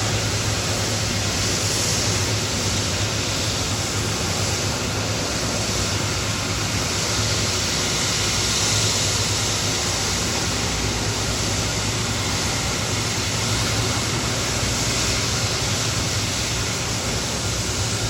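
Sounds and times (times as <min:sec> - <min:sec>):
jet airliner engines running: 0:00.0 - 0:18.0.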